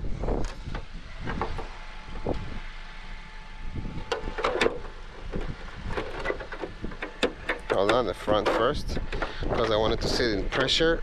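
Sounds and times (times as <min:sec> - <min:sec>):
wind rumbling on microphone: 0:00.0 - 0:02.8, 0:03.6 - 0:11.0.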